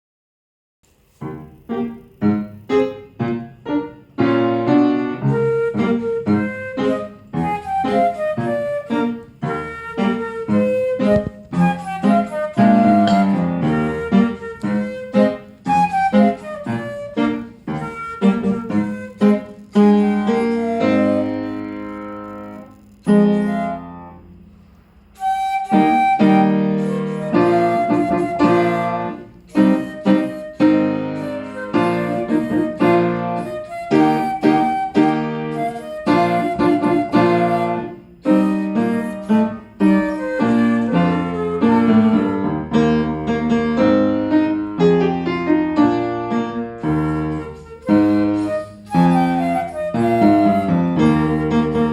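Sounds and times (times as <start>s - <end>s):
piano notes ringing: 1.2s - 51.9s
flute: 4.8s - 24.3s, 25.1s - 43.0s, 46.3s - 51.9s.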